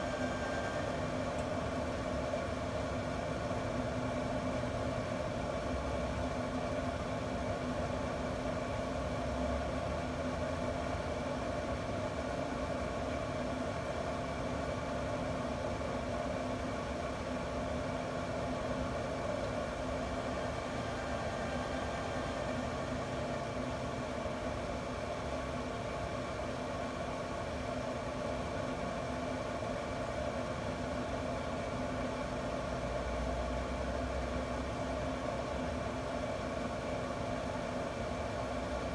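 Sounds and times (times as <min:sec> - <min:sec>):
fan humming: 0:00.0 - 0:32.5.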